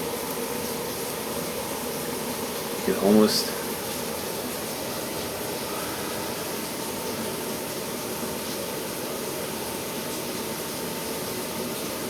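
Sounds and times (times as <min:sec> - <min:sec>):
water heater burner and fan rushing: 0:00.0 - 0:12.0.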